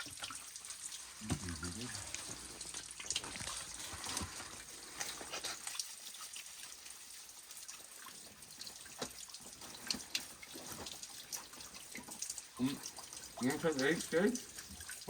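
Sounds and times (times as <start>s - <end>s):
water trickling over rocks: 0.0s - 15.0s.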